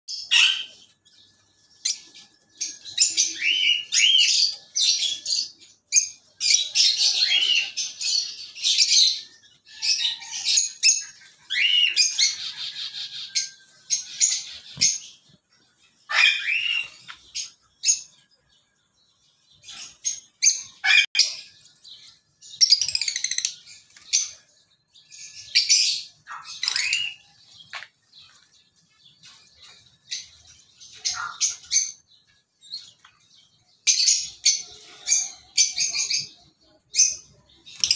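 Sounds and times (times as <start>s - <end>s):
lovebirds chirping and screeching: 0.1s - 37.9s.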